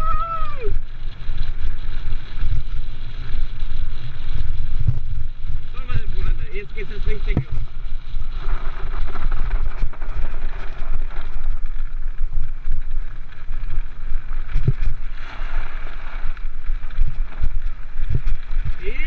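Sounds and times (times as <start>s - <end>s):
cart wheels rumbling on gravel: 0.0s - 19.0s
wind buffeting: 0.0s - 19.0s.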